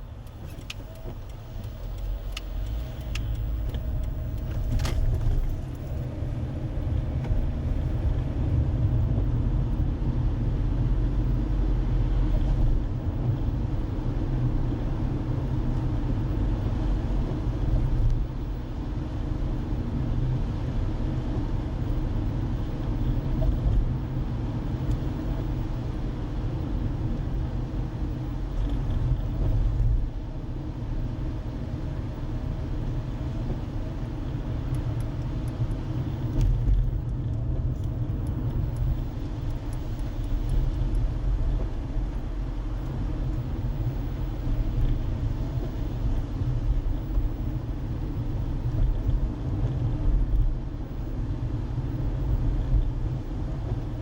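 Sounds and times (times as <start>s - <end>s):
car interior road and engine noise: 0.0s - 54.0s.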